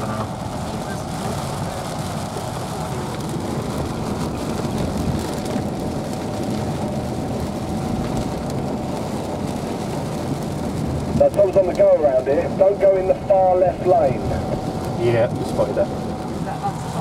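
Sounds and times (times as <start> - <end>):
rain on car glass: 0.0 - 17.0
road and engine noise: 0.0 - 17.0.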